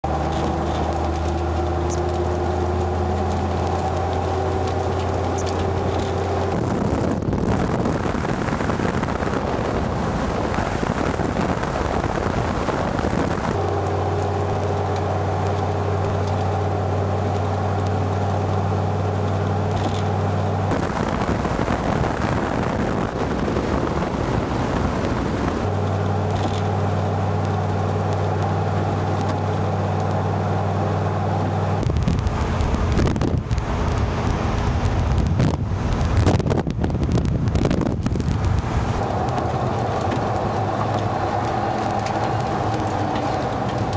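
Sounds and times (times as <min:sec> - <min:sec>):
car engine and road drone: 0:00.0 - 0:43.9
rushing wind noise: 0:00.0 - 0:43.9.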